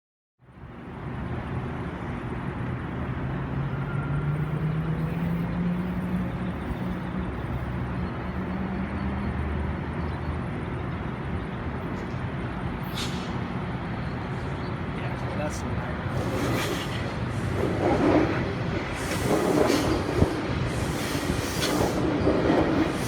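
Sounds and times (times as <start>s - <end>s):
diesel train engine rumbling: 0.5s - 23.0s.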